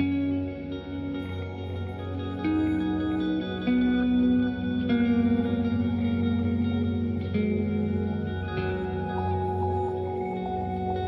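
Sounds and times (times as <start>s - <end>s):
echoing guitar-like notes: 0.0s - 11.0s
soft ambient music: 0.0s - 11.0s.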